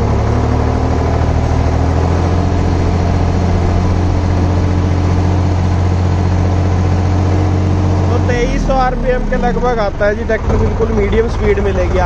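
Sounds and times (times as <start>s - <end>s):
tractor diesel engine revving: 0.0s - 12.0s.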